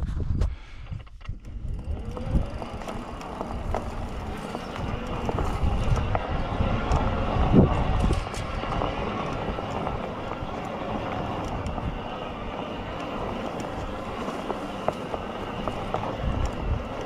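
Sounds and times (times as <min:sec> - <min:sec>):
electric bike motor whining: 0:00.5 - 0:17.0.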